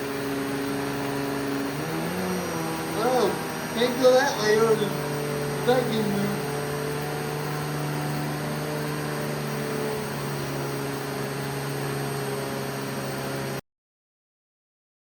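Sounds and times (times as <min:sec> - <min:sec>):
vacuum cleaner running: 0:00.0 - 0:13.6.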